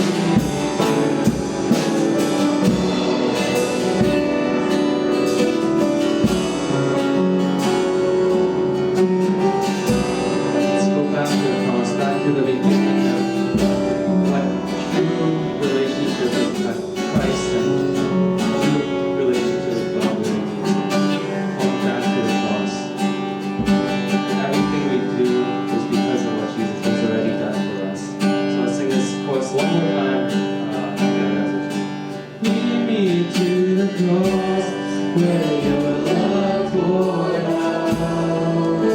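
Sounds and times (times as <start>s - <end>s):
strummed guitar music: 0.0s - 38.9s.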